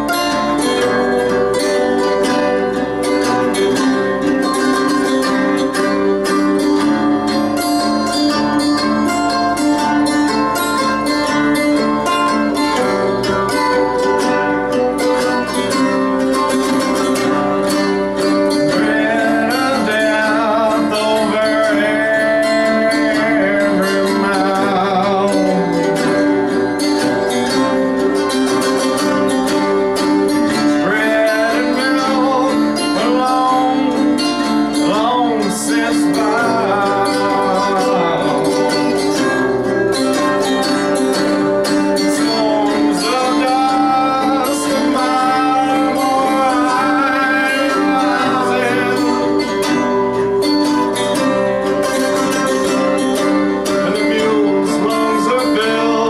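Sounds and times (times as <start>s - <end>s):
acoustic guitar picking: 0.0s - 56.0s
wavering melody with vibrato: 0.0s - 56.0s.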